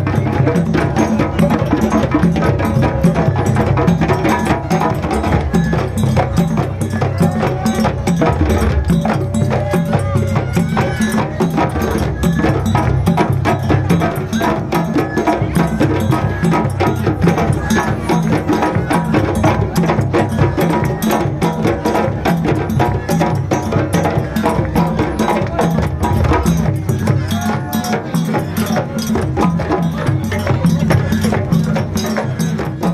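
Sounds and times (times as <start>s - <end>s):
percussion ensemble drumming: 0.0s - 32.9s.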